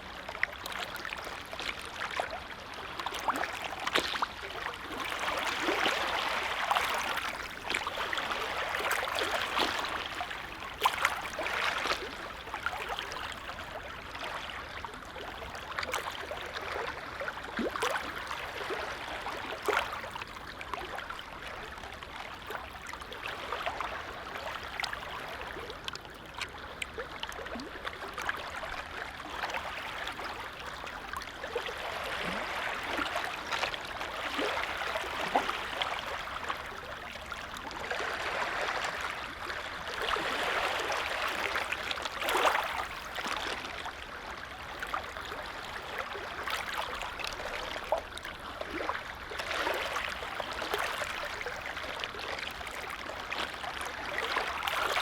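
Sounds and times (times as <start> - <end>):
small water splashes: 0.0 - 55.0
lake waves lapping: 0.3 - 55.0.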